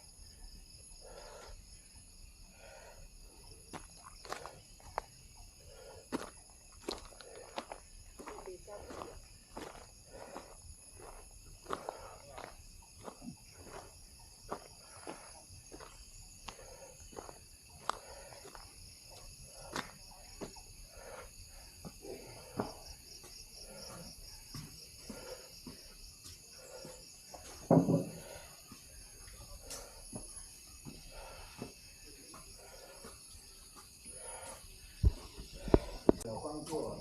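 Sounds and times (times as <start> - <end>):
insects chirring: 0.0 - 37.0
footsteps on trail: 3.6 - 27.6, 28.2 - 36.9.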